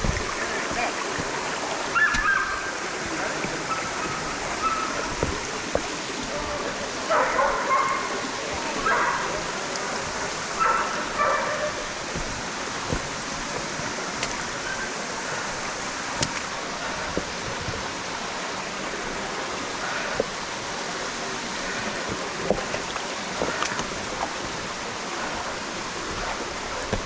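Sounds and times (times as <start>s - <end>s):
stream rushing over boulders: 0.0s - 27.0s.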